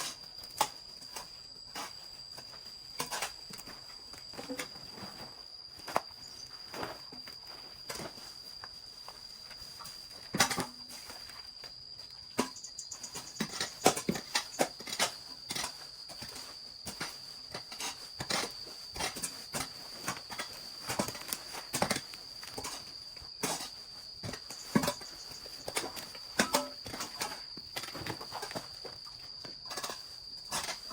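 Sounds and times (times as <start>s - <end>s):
high insect trill: 0.0s - 30.9s.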